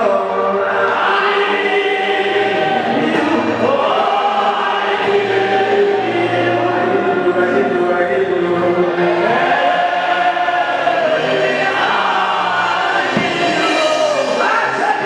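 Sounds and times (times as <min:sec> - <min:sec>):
choir singing gospel song: 0:00.0 - 0:15.0.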